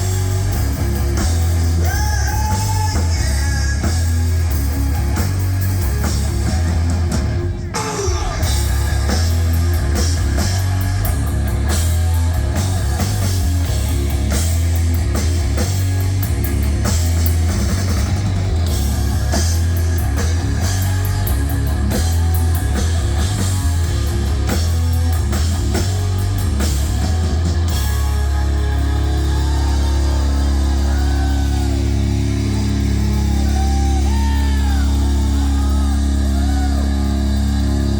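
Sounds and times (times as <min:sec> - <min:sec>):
heavy metal band playing live: 0:00.0 - 0:37.9.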